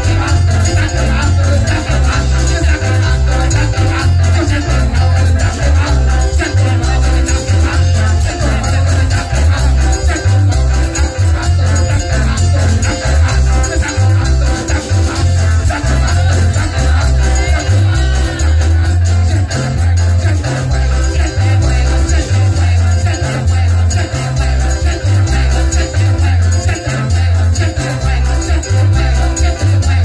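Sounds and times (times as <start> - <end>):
pulsing bass line: 0.0 - 30.0
shaker percussion: 0.0 - 30.0
worship music in latin rhythm: 0.0 - 30.0.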